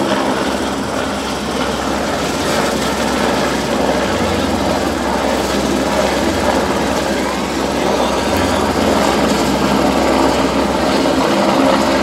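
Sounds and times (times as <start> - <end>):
helicopter rotor and engine: 0.0 - 12.0.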